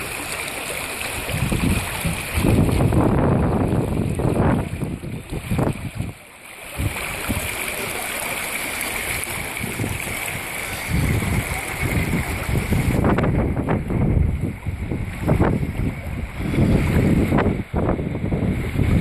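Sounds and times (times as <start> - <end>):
floodwater rushing: 0.0 - 19.0
wind buffeting microphone: 1.0 - 8.0, 8.7 - 19.0.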